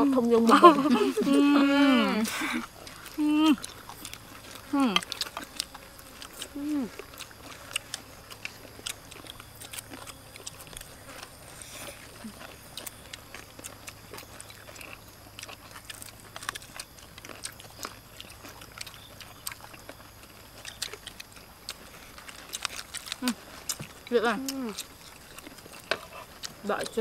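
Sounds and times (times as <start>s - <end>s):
people chewing and eating: 0.0s - 27.0s.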